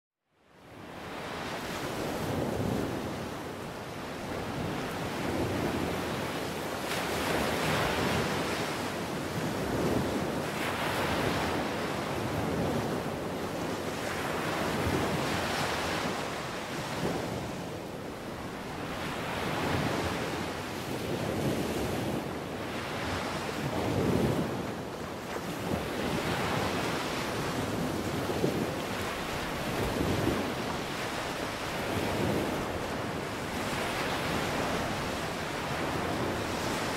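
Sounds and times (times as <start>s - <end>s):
ocean surf breaking on rocks: 1.0s - 36.9s.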